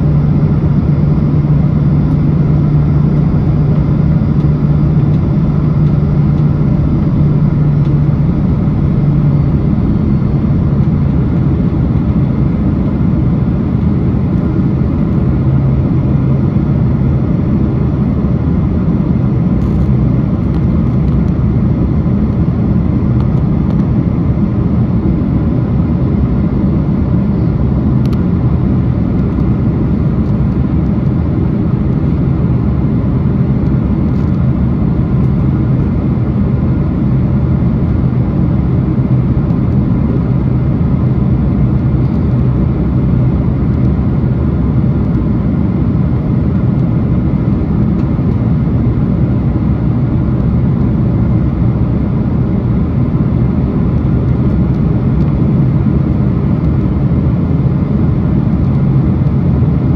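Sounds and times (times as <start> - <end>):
airliner engine and airflow rumble: 0.0 - 59.9.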